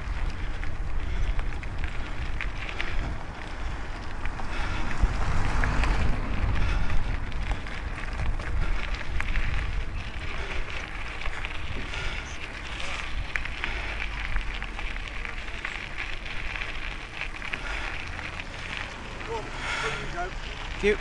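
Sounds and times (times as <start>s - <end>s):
wind buffeting microphone: 0.0s - 19.5s
bike clicks and rattles: 0.0s - 21.0s
bike tyre noise: 0.0s - 21.0s.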